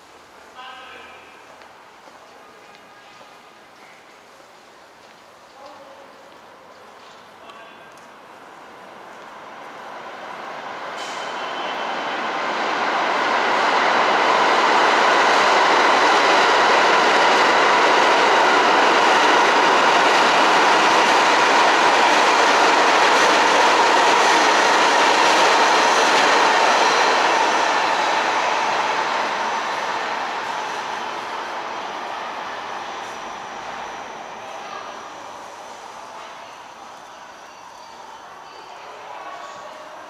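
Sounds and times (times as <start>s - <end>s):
subway train rumbling on rails: 0.0s - 40.0s.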